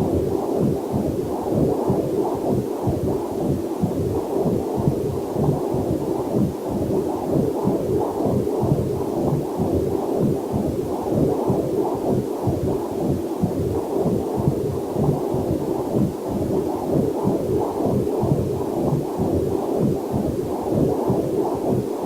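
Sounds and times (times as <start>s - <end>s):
fetal heartbeat whooshing pulse: 0.0s - 22.0s.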